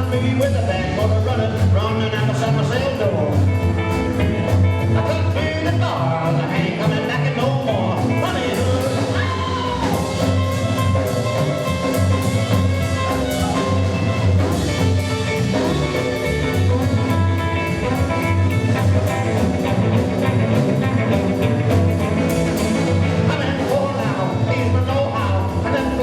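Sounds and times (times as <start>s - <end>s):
drum kit beat: 0.0s - 26.0s
electric guitar: 0.0s - 26.0s
rockabilly band playing: 0.0s - 26.0s.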